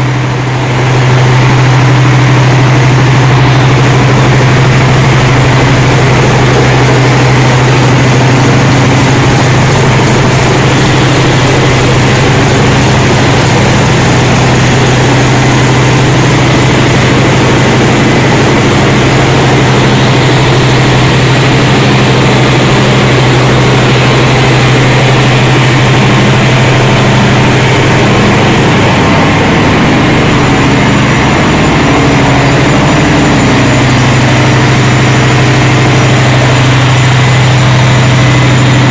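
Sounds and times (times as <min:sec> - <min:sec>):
diesel machinery drone: 0:00.0 - 0:38.9.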